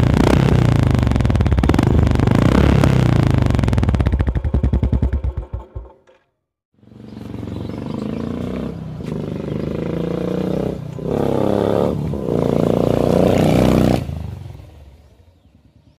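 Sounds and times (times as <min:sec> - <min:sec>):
motorcycle engine pulling away: 0:00.0 - 0:06.1, 0:06.8 - 0:16.0.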